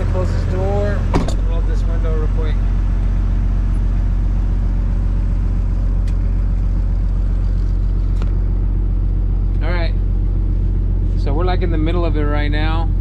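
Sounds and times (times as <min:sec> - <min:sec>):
diesel engine idling rumble: 0:00.0 - 0:13.0.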